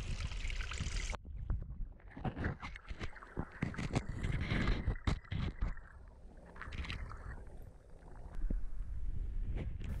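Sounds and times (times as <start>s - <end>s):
underwater sloshing and gurgling: 0.1s - 9.9s.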